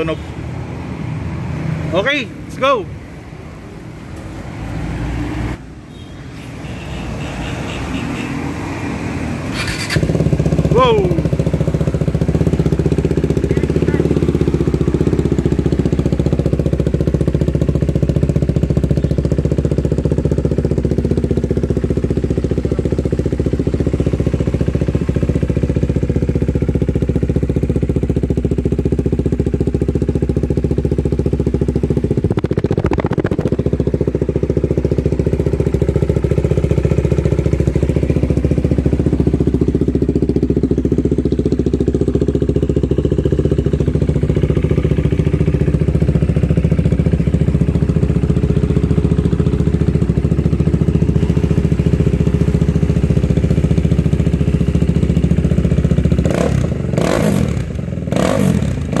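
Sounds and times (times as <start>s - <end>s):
motorcycle engine idling: 0.0s - 4.9s, 5.7s - 59.0s.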